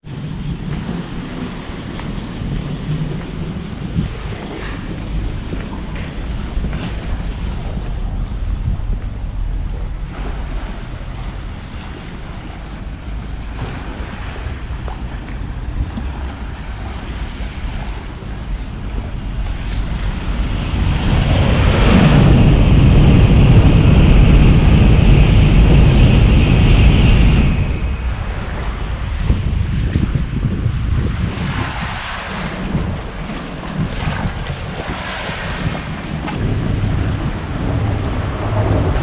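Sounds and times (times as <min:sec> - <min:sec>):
loud rumbling with high ringing: 0:00.0 - 0:39.0
wind rumbling on microphone: 0:00.0 - 0:39.0.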